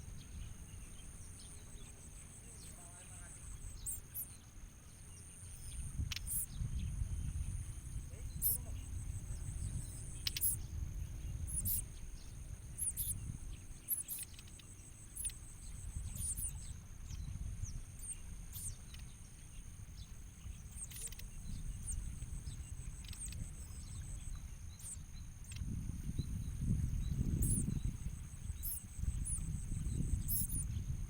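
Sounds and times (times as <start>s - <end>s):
low wind rumble: 0.0s - 3.9s, 5.2s - 31.0s
bird chirping: 0.0s - 7.0s, 8.1s - 30.9s
insect drone: 0.0s - 31.0s.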